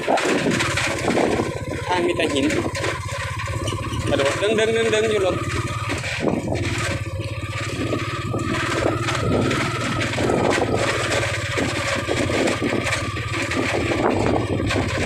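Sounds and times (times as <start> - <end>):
motorcycle engine running: 0.0 - 15.0
scraping and rattling: 0.0 - 15.0.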